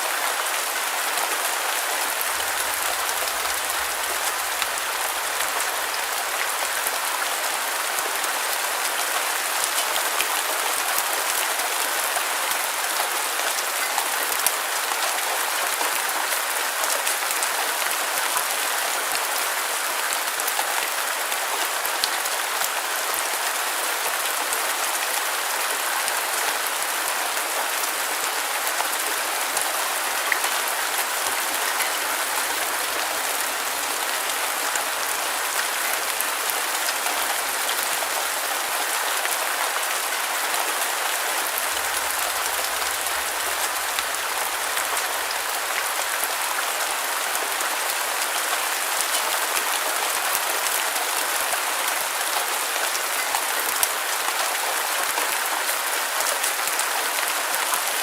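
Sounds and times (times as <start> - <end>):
dense rain hiss: 0.0 - 58.0.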